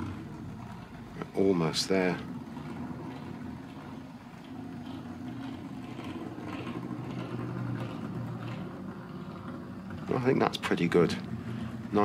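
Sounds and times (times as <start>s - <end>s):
model train motor buzzing hum: 0.0s - 12.0s.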